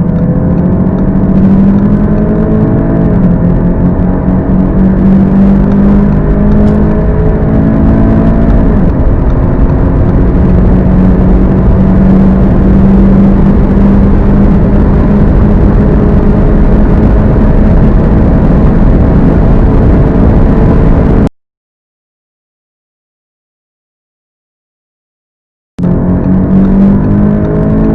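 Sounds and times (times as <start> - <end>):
car engine at full throttle: 0.0 - 21.3, 25.8 - 27.9.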